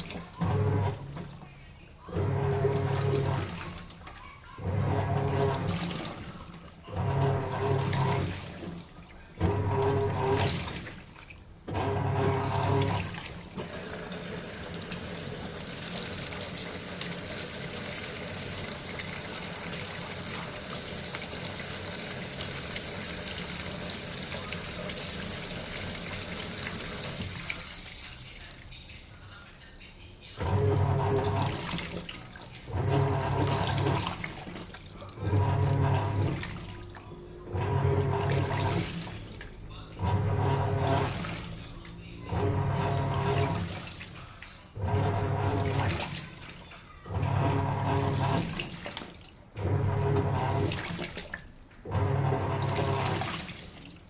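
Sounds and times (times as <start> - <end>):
washing machine motor humming: 0.0 - 54.0
water running into machine: 0.0 - 54.0.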